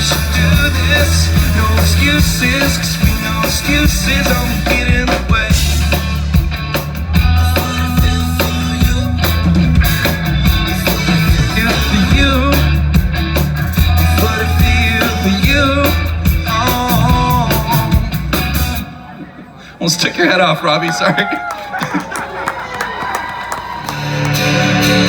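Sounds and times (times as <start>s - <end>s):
bass guitar: 0.0s - 19.1s, 23.8s - 25.0s
guitar: 0.0s - 19.1s, 23.8s - 25.0s
drums: 0.0s - 19.6s, 21.6s - 25.0s.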